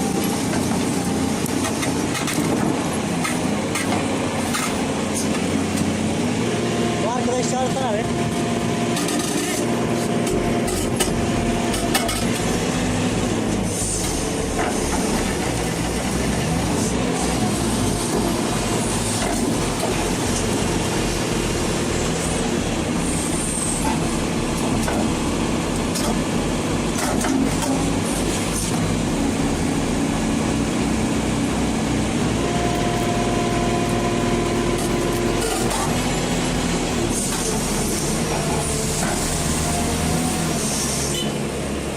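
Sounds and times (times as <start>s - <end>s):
large engine throbbing and whining: 0.0s - 41.9s.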